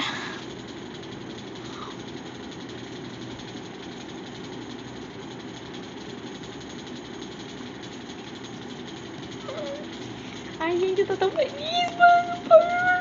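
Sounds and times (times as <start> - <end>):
faint fast rattle: 0.0 - 13.0
small motor running: 0.0 - 13.0.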